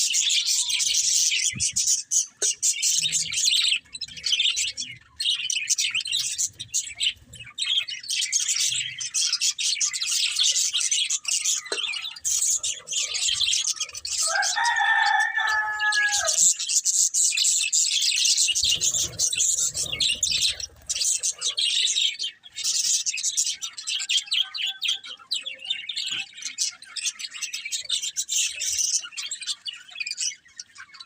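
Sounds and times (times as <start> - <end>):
budgerigars chirping and chattering: 0.0 - 31.0.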